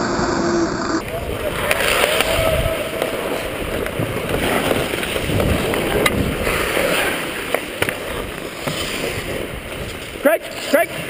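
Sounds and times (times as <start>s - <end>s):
skate blades scraping ice: 1.4s - 11.0s.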